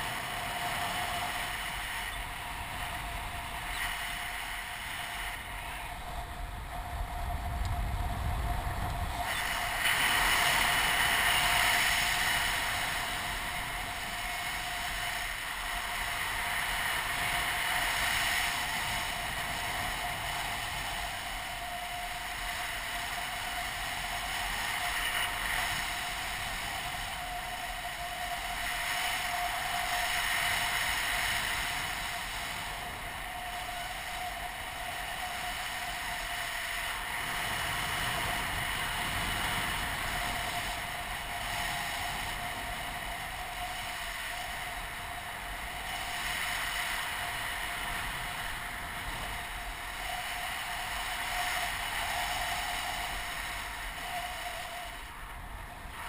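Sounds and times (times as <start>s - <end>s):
faint steady whine: 0.0s - 56.0s
wind rushing over camera: 0.0s - 56.0s.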